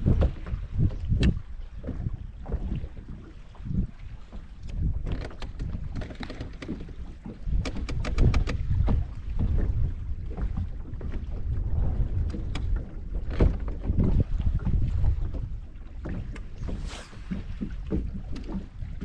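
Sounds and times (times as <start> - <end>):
water slapping against boat hull: 0.0 - 19.0
wind buffeting microphone: 0.0 - 19.0.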